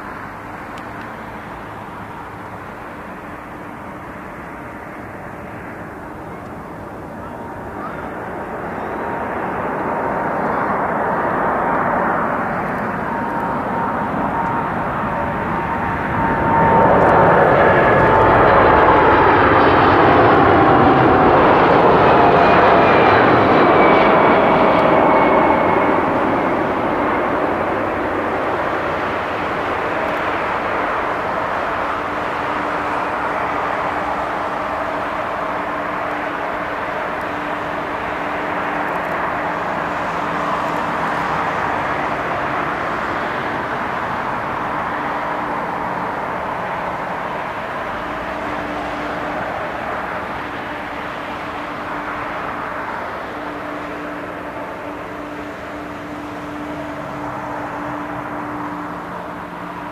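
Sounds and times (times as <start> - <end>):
jet engine whine falling in pitch: 0.0 - 59.9.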